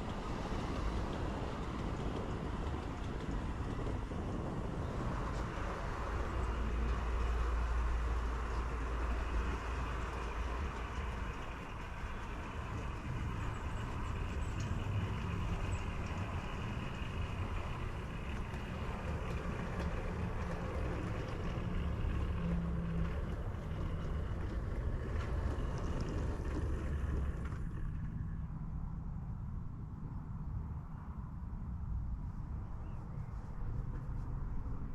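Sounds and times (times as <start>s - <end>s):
rumble of vehicles: 0.0s - 34.9s.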